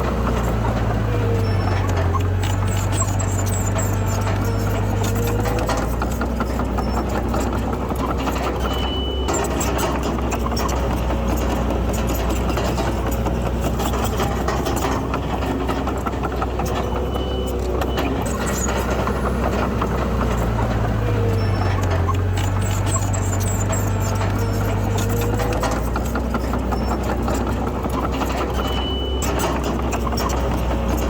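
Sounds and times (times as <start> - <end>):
faint clicking and clanking: 0.0 - 31.0
heavy machinery diesel engine: 0.0 - 31.0.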